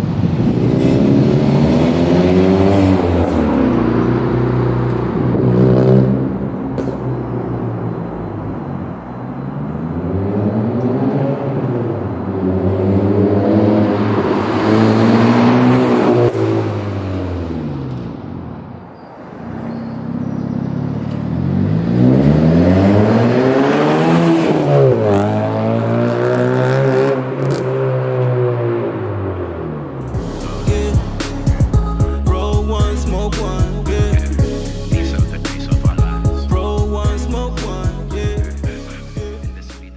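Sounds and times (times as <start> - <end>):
car engine revving: 0.0 - 18.4, 19.4 - 39.9.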